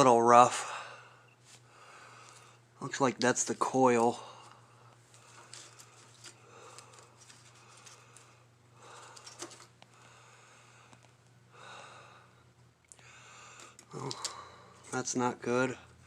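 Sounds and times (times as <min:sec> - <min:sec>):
steady low hum: 0:00.0 - 0:16.0
person breathing softly: 0:00.6 - 0:02.7, 0:04.1 - 0:14.9.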